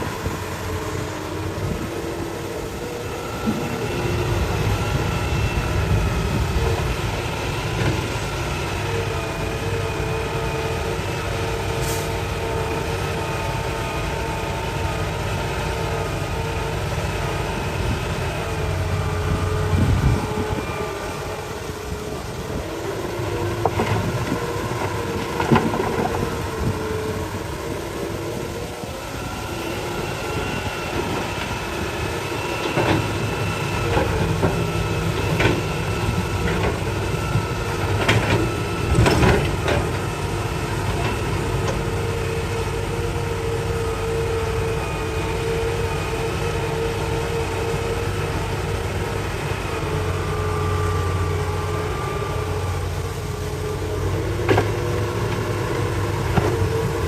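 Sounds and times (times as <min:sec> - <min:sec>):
excavator engine with hydraulic whine: 0:00.0 - 0:57.0.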